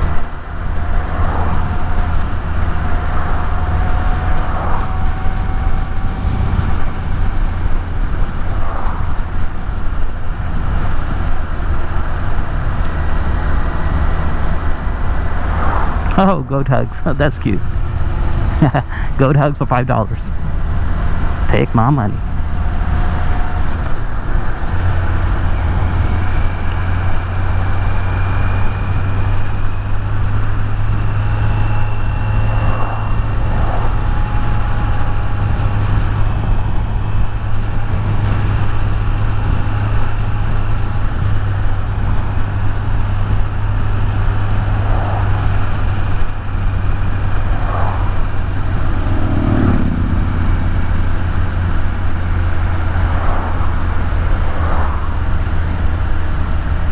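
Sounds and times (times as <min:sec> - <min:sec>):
motorcycle engine cruising: 0:00.0 - 0:19.3, 0:20.2 - 0:56.9
wind and road noise: 0:00.0 - 0:56.9.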